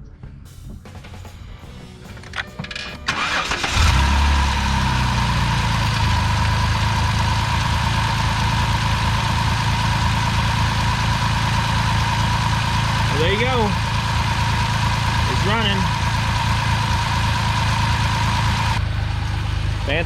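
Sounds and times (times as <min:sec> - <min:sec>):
car engine cranking and idling: 0:02.1 - 0:20.0
steady whine: 0:03.4 - 0:20.0.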